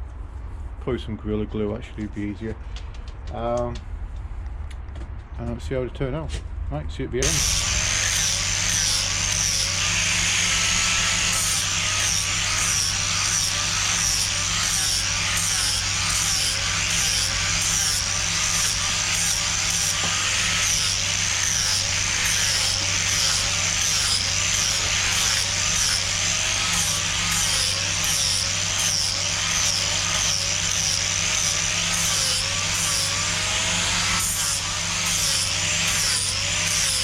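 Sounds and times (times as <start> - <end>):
power sander whining on wood: 7.2 - 37.0.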